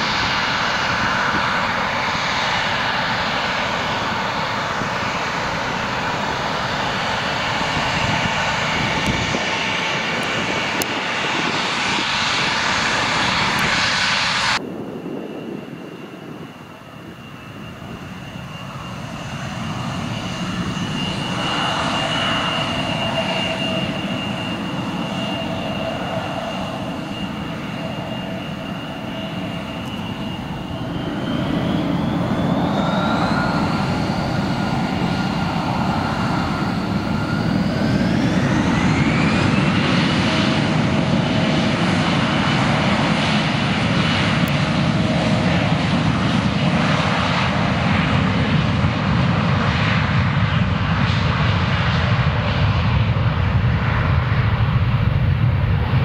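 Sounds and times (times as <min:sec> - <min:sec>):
jet engine rumble: 0:00.0 - 0:56.0
jet engines whining: 0:00.0 - 0:56.0.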